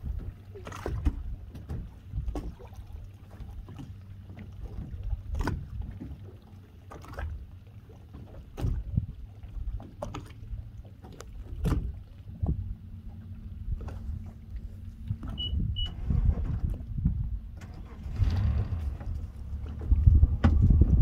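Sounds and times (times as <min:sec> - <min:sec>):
boat engine hum: 0:00.0 - 0:21.0
water slapping against hull: 0:00.0 - 0:21.0.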